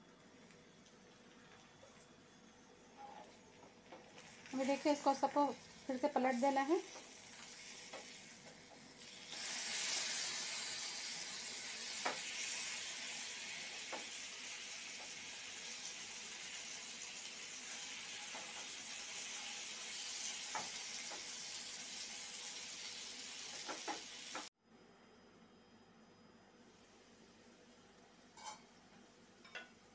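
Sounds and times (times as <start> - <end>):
potato slices sizzling in oil: 0.2 - 24.5.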